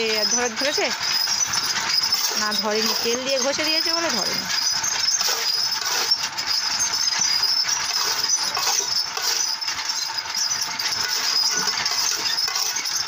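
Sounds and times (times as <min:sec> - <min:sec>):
motor-driven stirrer hiss and rattle: 0:00.0 - 0:13.0.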